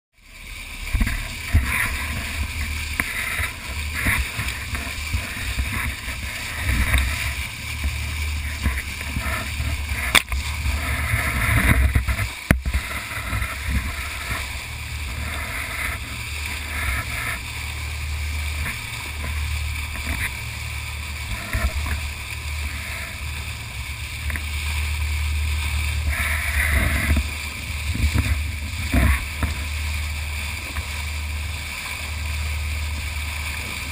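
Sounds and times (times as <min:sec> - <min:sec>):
boat engine low rumble: 0:00.1 - 0:33.9
bow wave rushing and splashing: 0:00.1 - 0:33.9.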